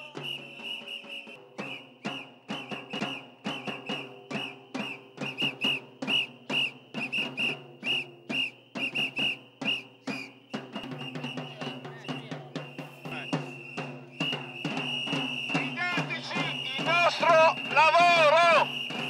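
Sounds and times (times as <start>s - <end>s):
shrill whistle blasts: 0.0s - 19.0s.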